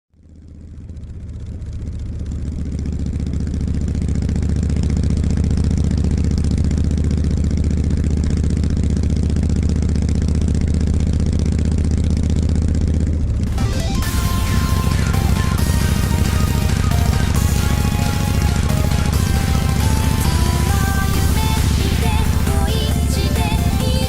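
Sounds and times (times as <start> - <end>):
motorcycle engine idling: 0.2 - 24.0.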